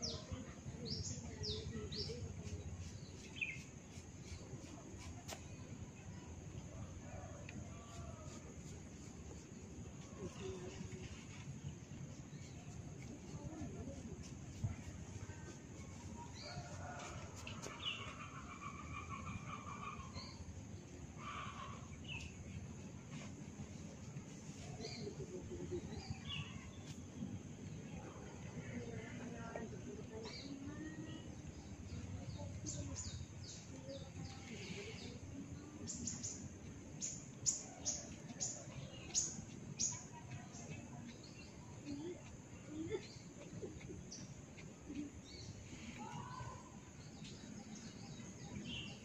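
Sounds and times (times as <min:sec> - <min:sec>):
low background noise: 0:00.0 - 0:49.0.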